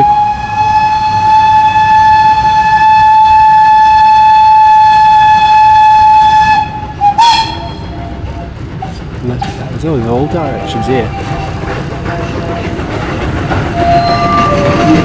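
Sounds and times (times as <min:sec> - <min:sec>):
train whistle blowing: 0:00.0 - 0:08.6, 0:10.2 - 0:12.7, 0:13.7 - 0:15.0.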